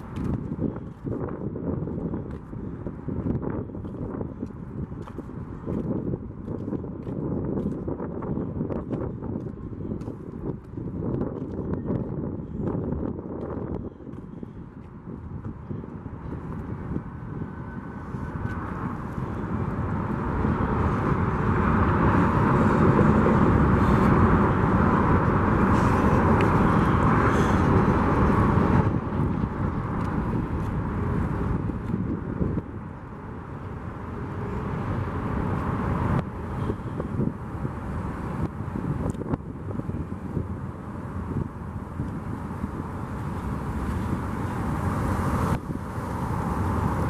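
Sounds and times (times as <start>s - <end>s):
freight train wheels rumbling: 0.0s - 47.0s.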